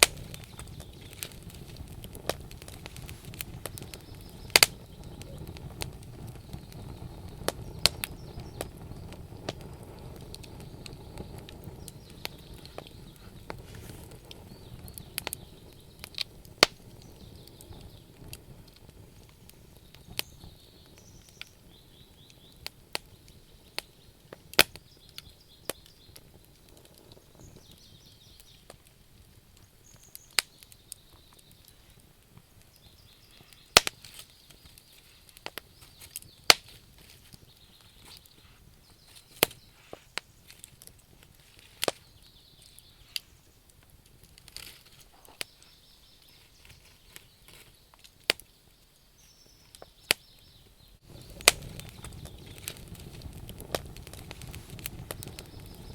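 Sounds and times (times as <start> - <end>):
campfire crackling and popping: 0.0 - 55.9
low rumble of flames: 0.0 - 55.9.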